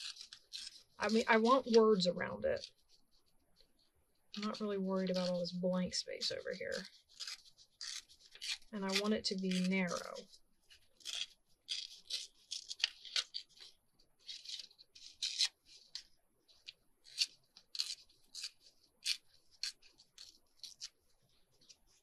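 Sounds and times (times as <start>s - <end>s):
book page tearing: 0.0s - 3.0s, 6.5s - 22.0s.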